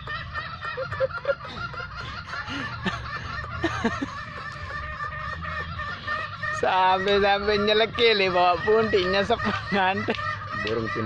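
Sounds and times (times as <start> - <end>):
birds calling in chorus: 0.0 - 11.0.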